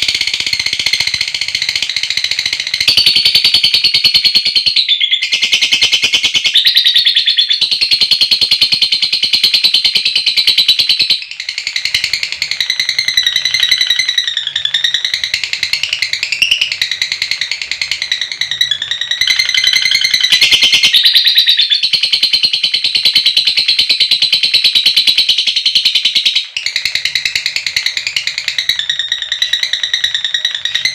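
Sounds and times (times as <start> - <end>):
lovebird rattling trill: 0.0 - 30.9.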